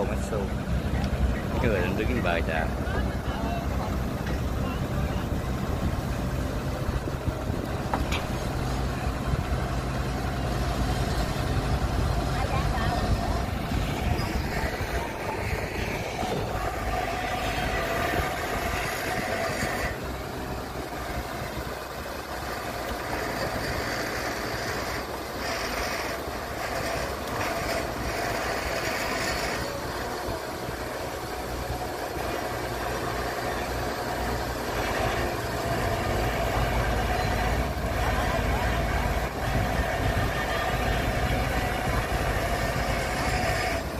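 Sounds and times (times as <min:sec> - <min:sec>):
excavator diesel engine: 0:00.0 - 0:43.9
tractor engine running: 0:00.0 - 0:43.9.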